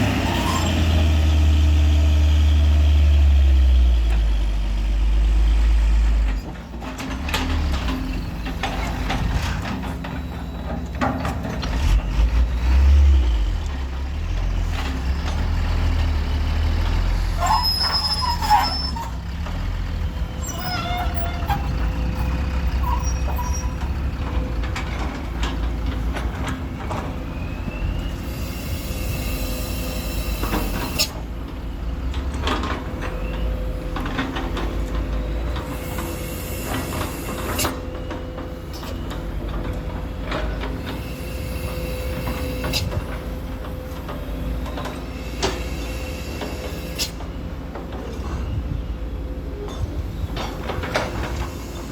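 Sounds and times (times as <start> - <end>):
truck engine rumble: 0.0 - 51.9.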